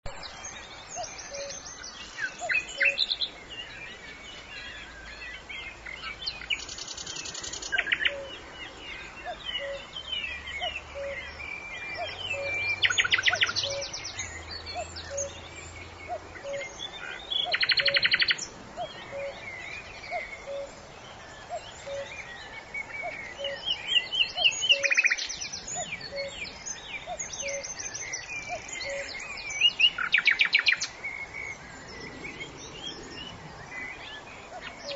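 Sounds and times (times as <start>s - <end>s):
songbirds chirping and whistling: 0.0s - 34.9s.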